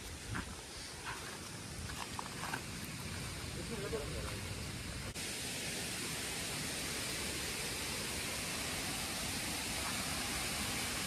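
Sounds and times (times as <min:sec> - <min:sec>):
stream water rushing: 0:01.3 - 0:11.0.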